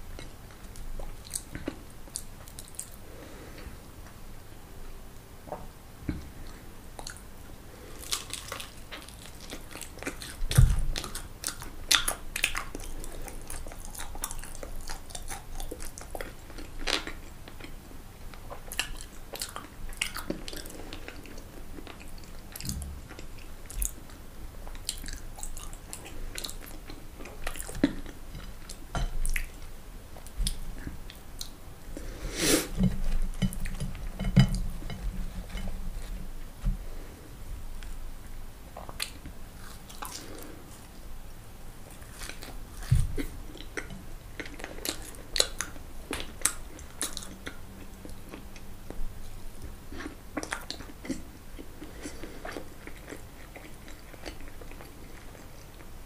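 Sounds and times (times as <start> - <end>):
chewing crunchy fried food: 6.5 - 36.2, 38.8 - 41.0, 41.8 - 56.0.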